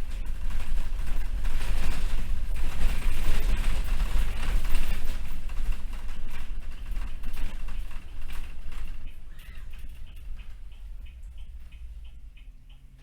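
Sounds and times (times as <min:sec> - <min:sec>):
loose rattling: 0:00.0 - 0:11.8
bus engine and road rumble: 0:00.0 - 0:13.0.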